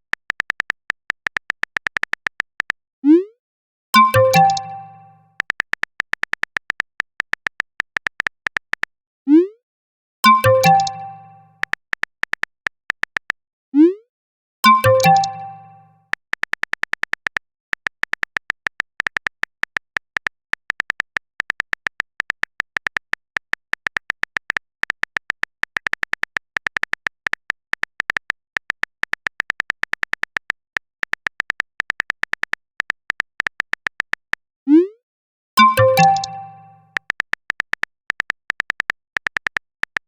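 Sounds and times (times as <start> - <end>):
phone keyboard typing clicks: 0.0 - 2.8, 4.0 - 8.9, 10.3 - 13.4, 14.7 - 34.4, 35.6 - 40.0.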